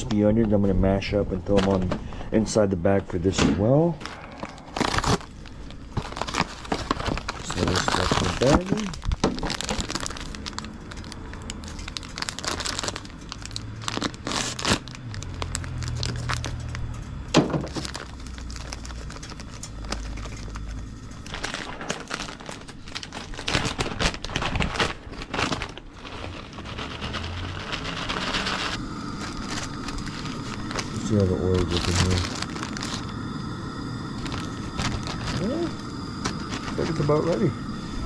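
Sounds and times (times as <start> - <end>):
plastic bags crinkling: 0.0 - 2.6, 3.6 - 37.8
crispy onions pouring into bag: 3.8 - 33.4, 34.0 - 37.6.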